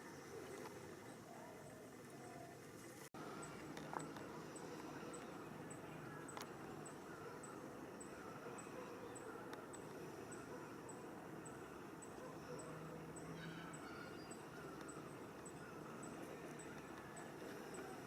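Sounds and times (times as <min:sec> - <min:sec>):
softer lower chirps: 0:03.2 - 0:18.0.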